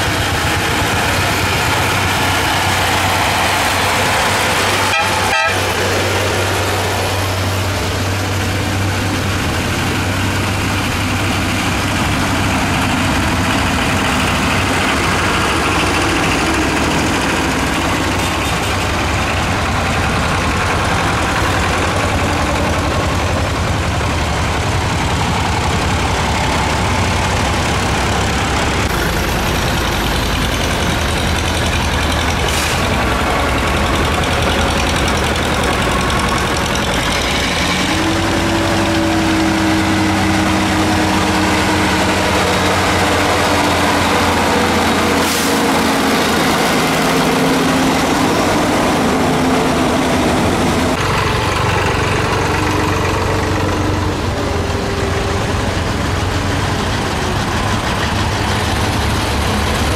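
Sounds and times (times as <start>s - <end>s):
tractor engines passing: 0.0s - 59.9s.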